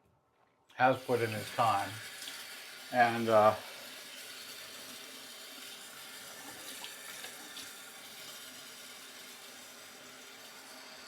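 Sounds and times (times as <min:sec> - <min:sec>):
sink tap running: 0:00.8 - 0:11.0.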